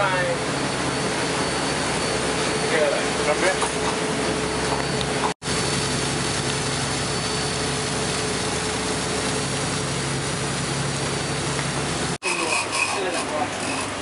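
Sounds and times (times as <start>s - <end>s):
boat engine humming: 0.0s - 14.0s
wind: 0.0s - 14.0s.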